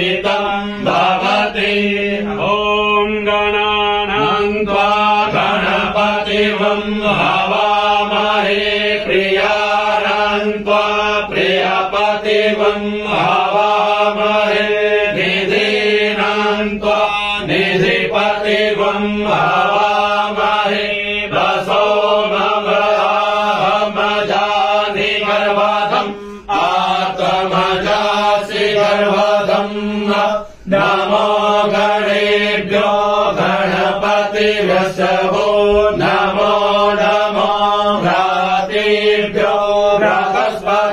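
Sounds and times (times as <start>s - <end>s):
men chanting together: 0.0s - 40.9s.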